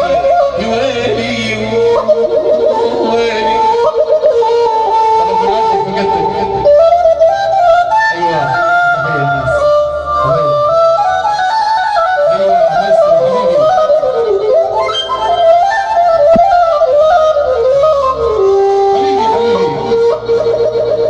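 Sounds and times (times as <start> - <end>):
flute-like lead melody: 0.0 - 21.0
low accompaniment: 0.0 - 21.0.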